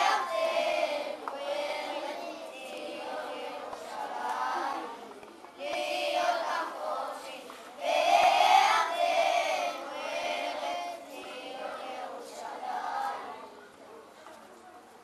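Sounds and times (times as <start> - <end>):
group of high voices singing: 0.0 - 5.0, 5.6 - 13.5.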